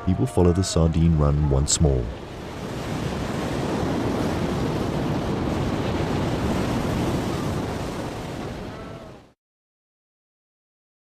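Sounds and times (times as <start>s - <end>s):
ocean waves and surf: 0.0s - 9.4s.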